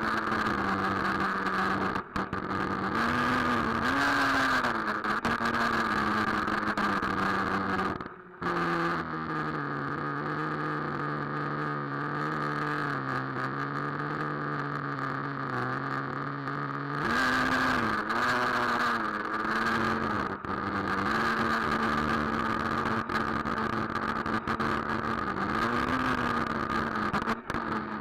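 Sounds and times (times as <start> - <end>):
nitro engine running: 0.0 - 28.0.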